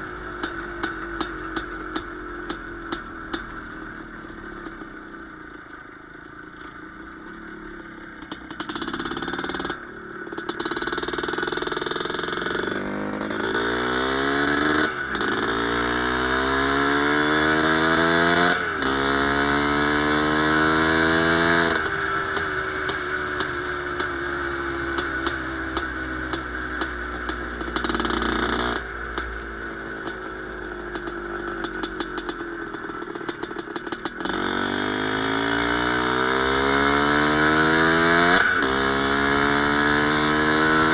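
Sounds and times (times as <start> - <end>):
motorcycle engine upshifting: 0.0 - 40.9.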